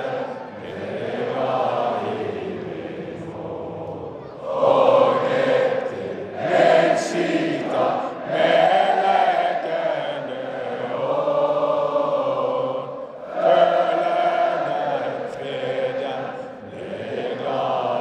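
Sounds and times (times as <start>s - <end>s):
stadium crowd singing a chant: 0.0s - 18.0s.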